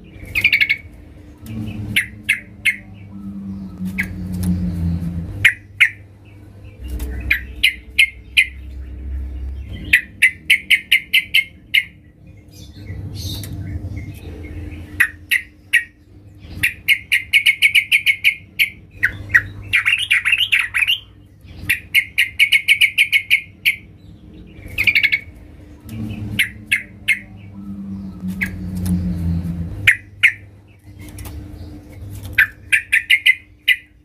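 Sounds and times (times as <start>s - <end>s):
bird chattering calls: 0.2s - 12.0s, 12.8s - 34.0s.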